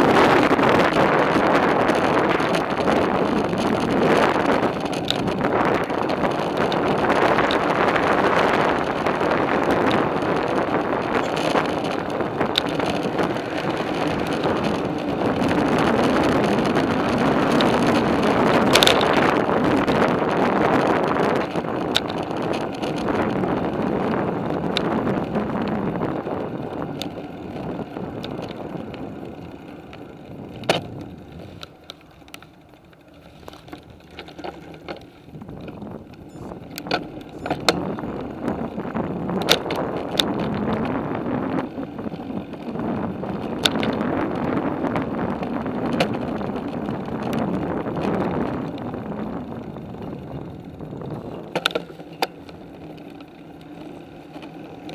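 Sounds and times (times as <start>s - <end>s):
bicycle tyre and wind rumble: 0.0s - 54.9s
bike rattles and clicks over bumps: 0.0s - 54.9s.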